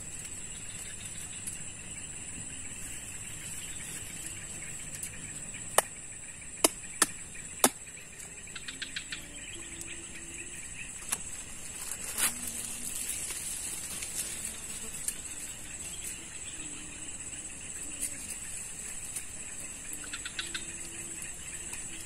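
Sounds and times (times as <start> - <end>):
small ticks: 0.0 - 6.0, 8.1 - 22.0
high-pitched insect chorus: 0.0 - 22.0.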